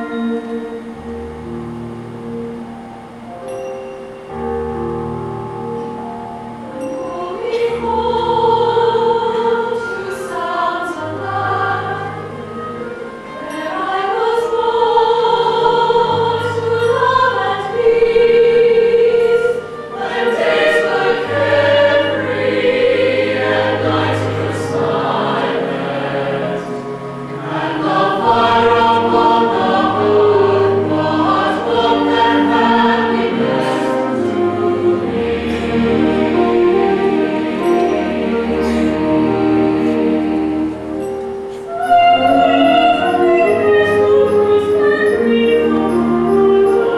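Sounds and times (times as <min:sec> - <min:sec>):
concert band playing slow chords: 0:00.0 - 0:09.5, 0:15.4 - 0:46.8.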